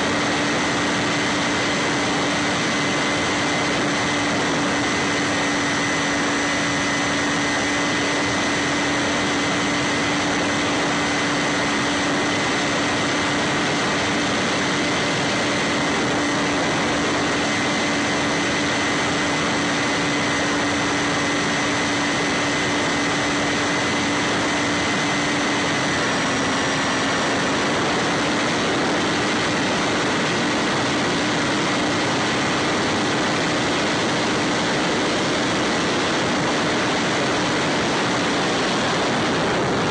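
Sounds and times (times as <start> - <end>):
electric motor propeller whine: 0.0 - 39.9
rushing wind: 0.0 - 39.9.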